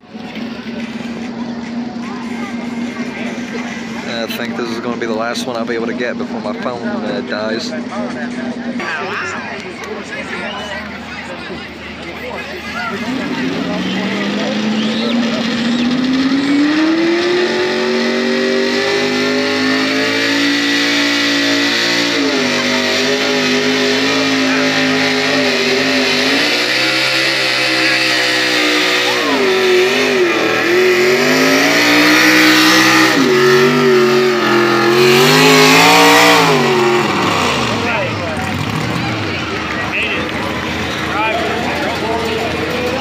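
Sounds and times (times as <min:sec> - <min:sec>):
truck engine at high revs: 0:00.0 - 0:43.0.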